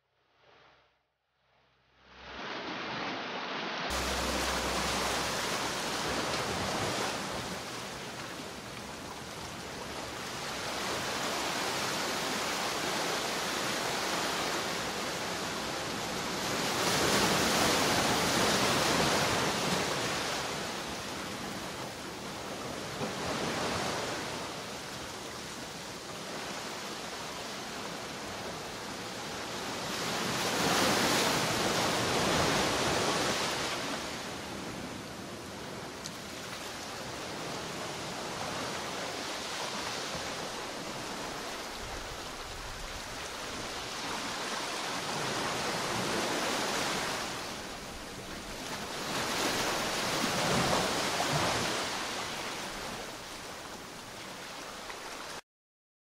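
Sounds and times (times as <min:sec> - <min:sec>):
ocean waves breaking: 0:02.0 - 0:55.4.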